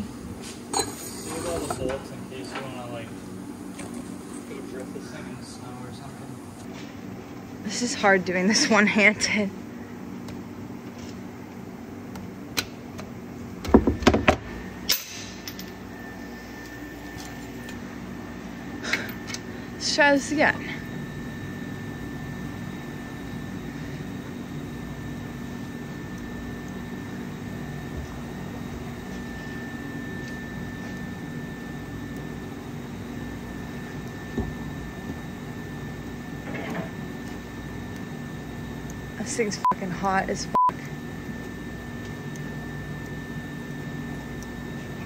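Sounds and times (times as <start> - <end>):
thin high whine: 0.0 - 6.7, 14.6 - 17.8, 18.4 - 45.0
steady low hum: 0.0 - 45.0.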